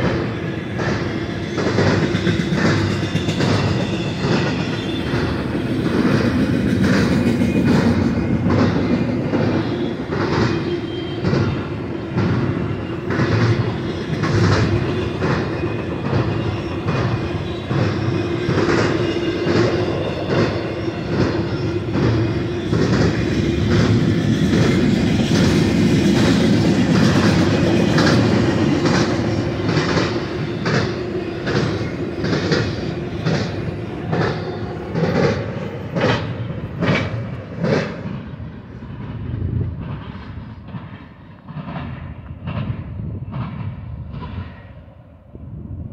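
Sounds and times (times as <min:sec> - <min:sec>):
wheels clicking over rail joints: 0:00.0 - 0:44.5
freight train rumbling past: 0:00.0 - 0:45.9.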